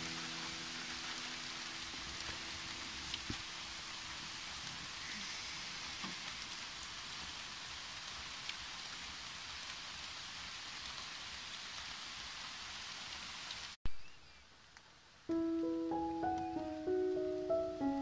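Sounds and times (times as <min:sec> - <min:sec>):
light rain on leaves: 0:00.0 - 0:18.0.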